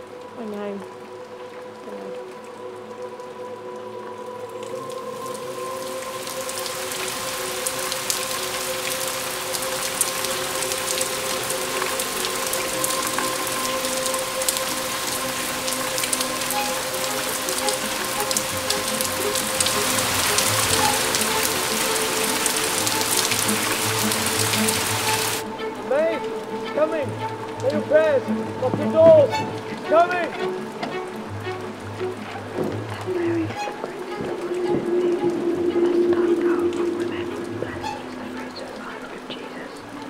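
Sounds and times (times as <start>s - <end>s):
held droning tones: 0.0s - 40.0s
steady rain falling: 0.0s - 40.0s.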